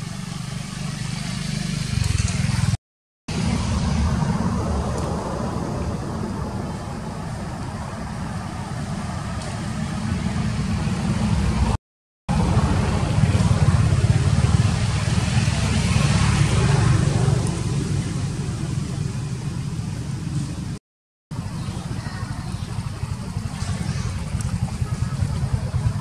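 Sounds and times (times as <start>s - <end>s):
outdoor rumble and hiss: 0.0s - 26.0s.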